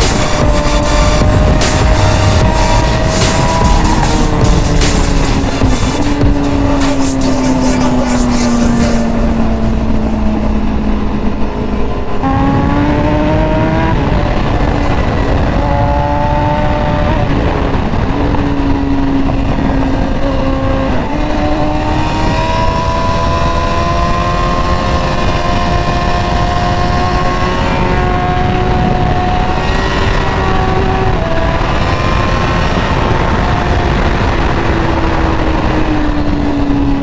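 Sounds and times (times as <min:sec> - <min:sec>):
motorcycle engine at speed: 0:00.0 - 0:37.0
wind noise: 0:00.0 - 0:37.0.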